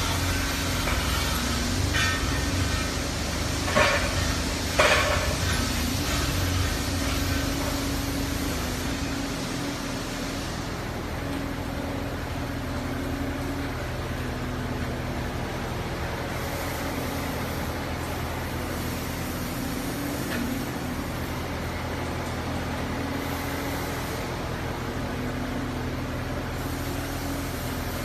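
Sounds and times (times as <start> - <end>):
excavator engine and hydraulics: 0.0 - 28.0.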